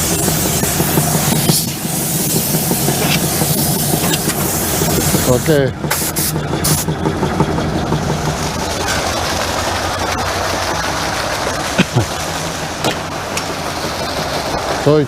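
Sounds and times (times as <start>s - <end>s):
grain conveyor running: 0.0s - 15.0s.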